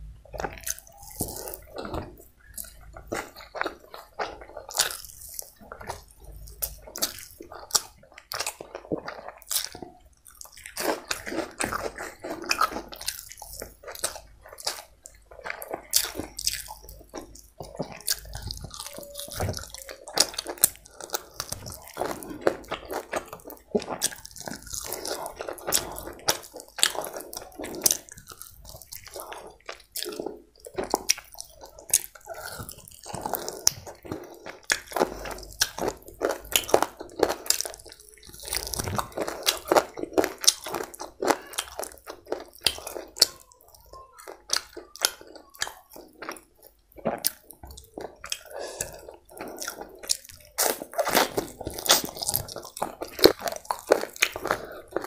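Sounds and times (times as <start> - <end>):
chewing food: 0.0 - 55.0.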